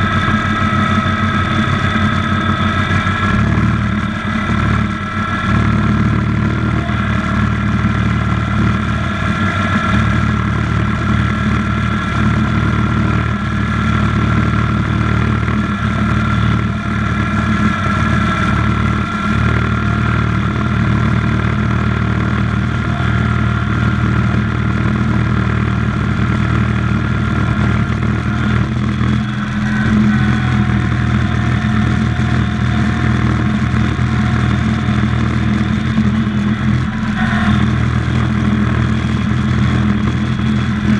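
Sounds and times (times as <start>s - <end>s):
thin high whine: 0.0s - 40.9s
tractor engine running under load: 0.0s - 40.9s.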